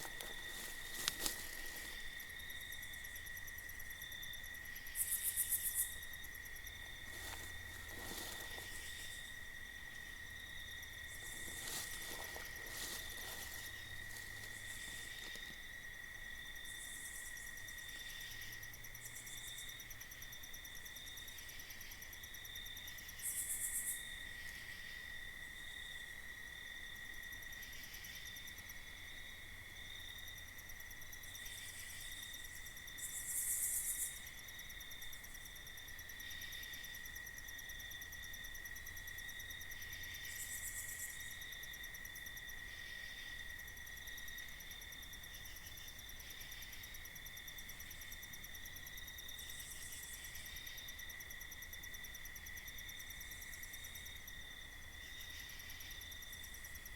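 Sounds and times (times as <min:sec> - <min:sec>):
crickets trilling: 0:00.0 - 0:56.9
high buzzy insect call: 0:00.0 - 0:56.9
pulsing insect chirp: 0:00.0 - 0:56.9.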